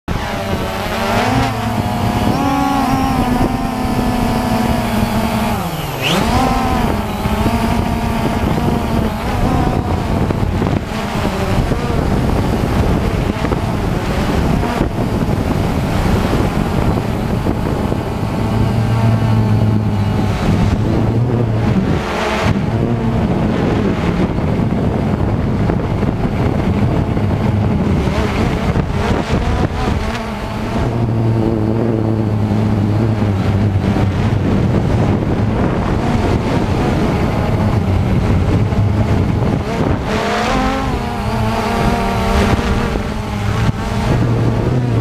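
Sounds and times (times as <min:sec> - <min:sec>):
drone propellers whining: 0:00.0 - 0:45.0.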